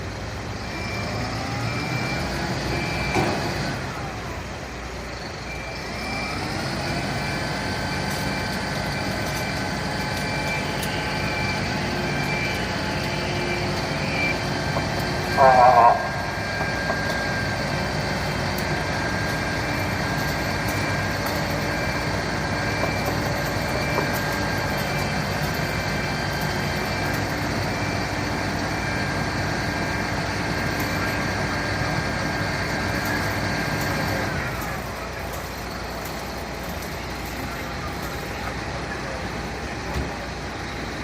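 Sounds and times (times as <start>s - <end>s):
fire truck engine running: 0.0s - 41.0s
high whine: 4.1s - 41.0s.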